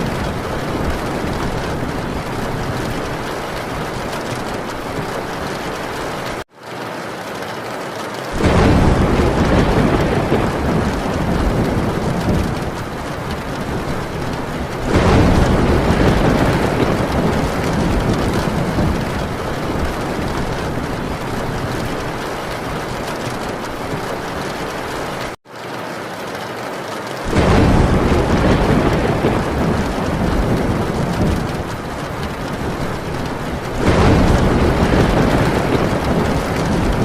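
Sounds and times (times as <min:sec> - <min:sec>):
thunder rolling: 0:00.0 - 0:06.4, 0:08.3 - 0:25.4, 0:27.3 - 0:37.0
heavy rain on a tin roof: 0:00.0 - 0:37.0.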